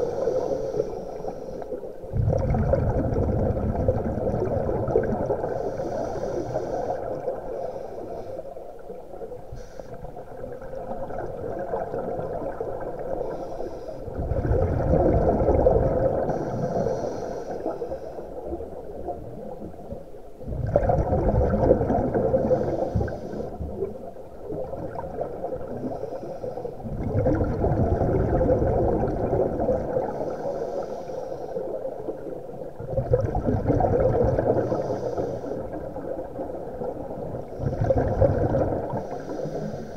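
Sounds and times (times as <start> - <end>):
exhaled bubbles rushing underwater: 0.0 - 39.9.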